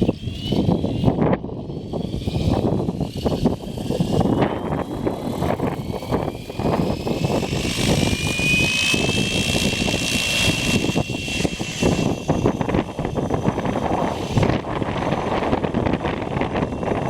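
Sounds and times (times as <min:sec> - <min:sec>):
high motor whine: 0:00.0 - 0:17.0
wind buffeting microphone: 0:00.0 - 0:17.0.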